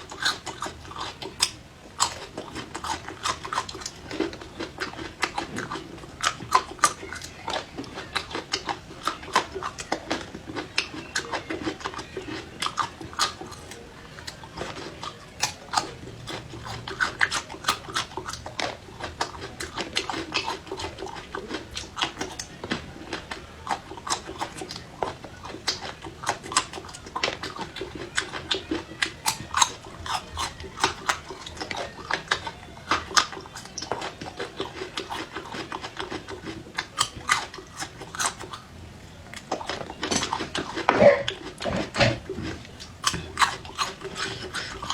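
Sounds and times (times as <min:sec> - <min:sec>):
person chewing crunchy food: 0:00.0 - 0:44.9.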